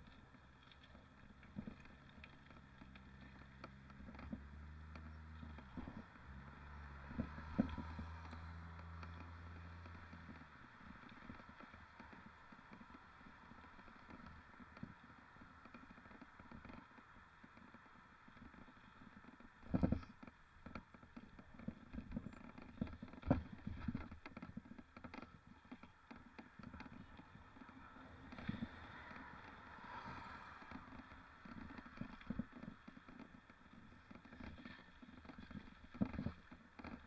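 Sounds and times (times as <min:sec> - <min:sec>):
bike rattling over rough ground: 0:00.0 - 0:37.0.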